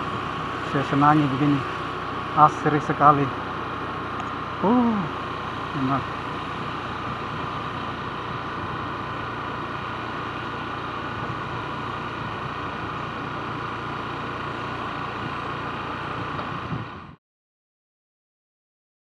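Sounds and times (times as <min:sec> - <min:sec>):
road and wind noise: 0:00.0 - 0:17.2
vehicle engine hum: 0:00.0 - 0:17.2.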